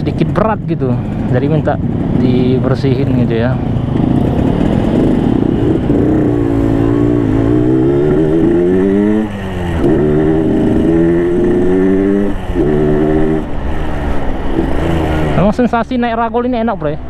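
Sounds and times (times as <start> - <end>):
motorcycle engine accelerating: 0.0 - 16.1.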